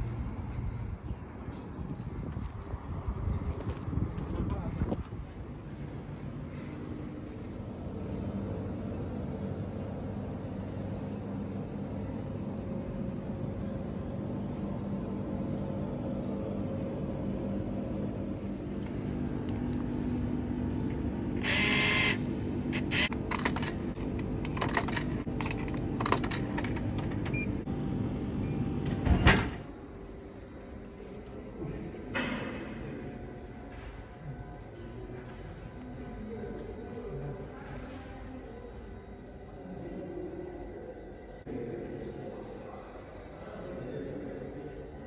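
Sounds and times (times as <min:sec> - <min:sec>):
vending machine humming: 0:05.6 - 0:45.0.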